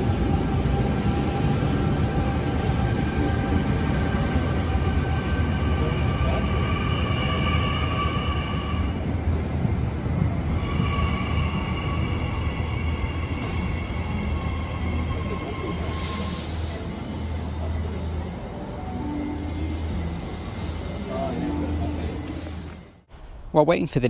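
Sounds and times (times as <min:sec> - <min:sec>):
electric train rumble: 0:00.0 - 0:23.1.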